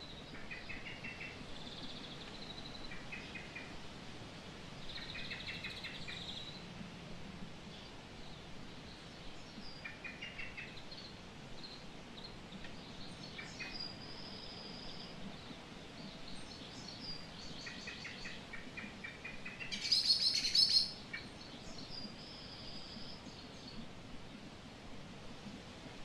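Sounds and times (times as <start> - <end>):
songbirds chirping: 0.0 - 26.0
steady outdoor hiss: 0.0 - 26.0.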